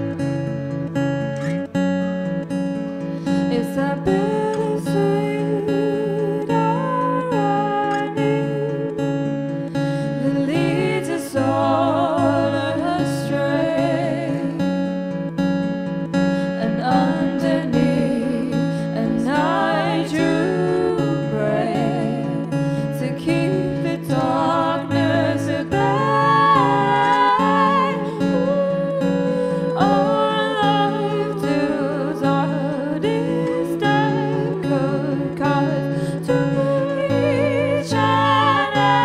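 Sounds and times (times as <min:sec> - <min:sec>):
acoustic guitar chords: 0:00.0 - 0:39.0
woman singing: 0:03.2 - 0:15.3, 0:16.2 - 0:39.0.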